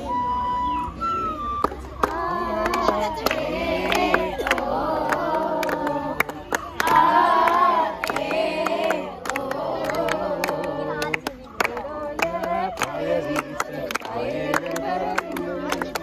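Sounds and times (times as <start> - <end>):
children singing together: 2.0 - 16.0.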